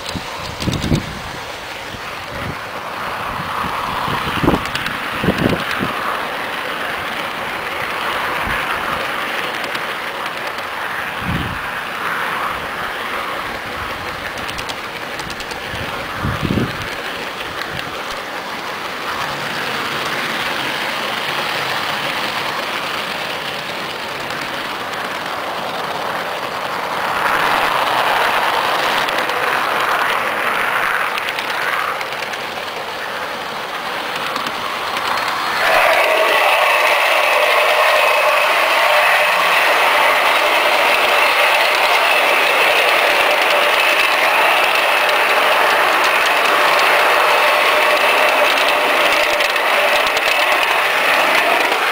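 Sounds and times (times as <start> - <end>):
model train wheels rattling on rail: 0.0 - 51.9.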